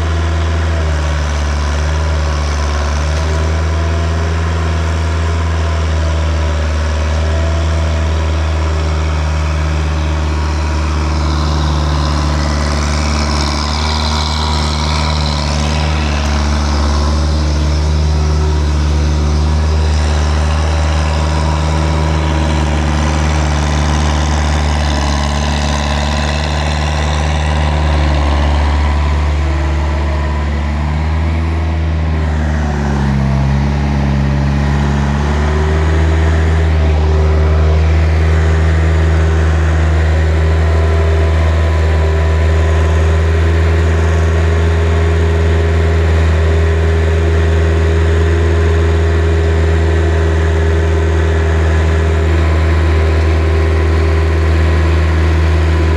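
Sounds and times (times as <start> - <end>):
vehicle engine humming: 0.0 - 55.9.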